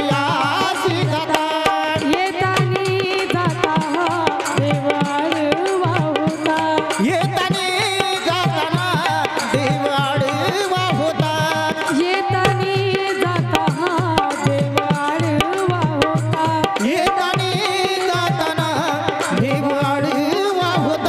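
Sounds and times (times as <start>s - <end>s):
hand drum beat: 0.0s - 21.0s
woman singing into a microphone: 0.0s - 21.0s.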